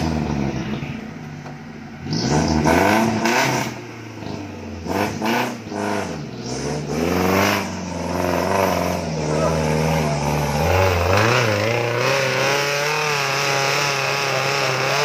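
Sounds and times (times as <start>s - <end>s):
off-road engine revving: 0.0s - 15.0s.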